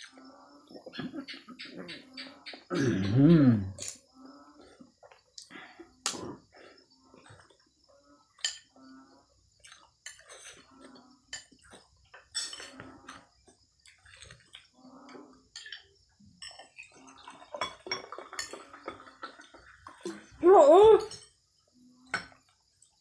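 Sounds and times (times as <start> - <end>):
eating noises: 0.0 - 16.0, 16.6 - 21.2
crickets chirping: 0.0 - 23.0.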